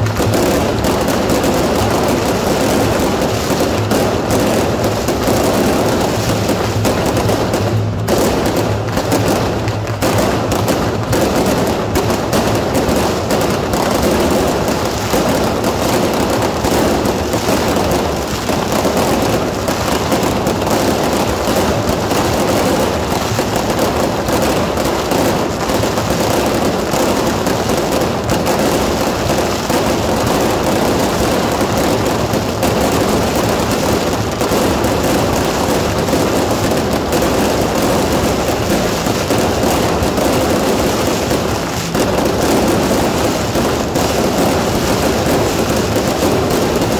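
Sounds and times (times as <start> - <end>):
firecrackers crackling and popping: 0.0 - 46.9.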